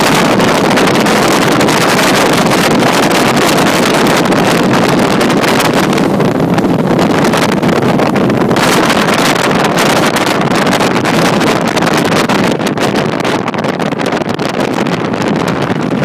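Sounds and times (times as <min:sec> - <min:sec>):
powerboat roaring over water: 0:00.0 - 0:16.0
wind buffeting microphone: 0:00.0 - 0:16.0.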